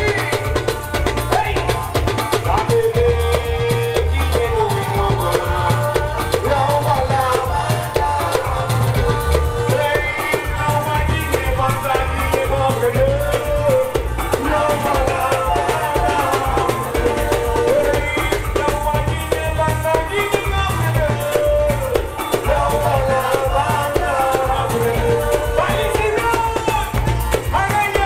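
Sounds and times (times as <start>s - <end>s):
dance music with drums and bass: 0.0s - 28.0s
person singing: 0.0s - 28.0s.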